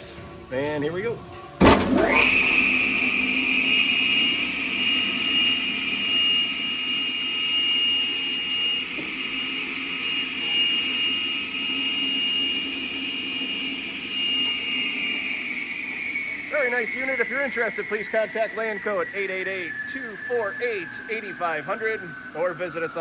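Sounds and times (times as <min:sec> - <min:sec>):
concrete saw motor whining: 0:01.6 - 0:23.0.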